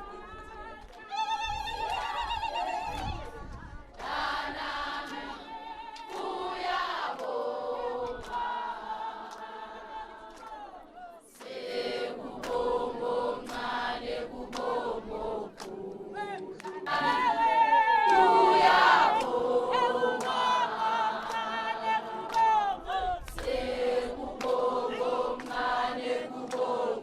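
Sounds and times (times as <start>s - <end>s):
choir singing: 4.0s - 27.0s.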